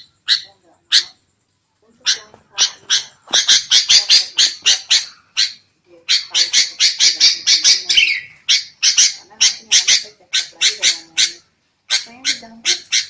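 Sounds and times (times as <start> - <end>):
bulbuls scolding calls: 0.0 - 1.2, 1.8 - 13.0.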